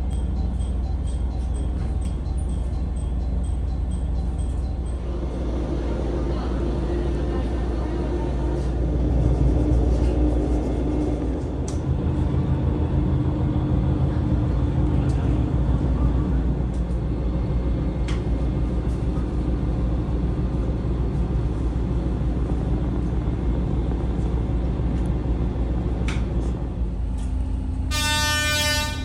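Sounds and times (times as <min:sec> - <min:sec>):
diesel railcar rumbling: 0:00.0 - 0:29.0.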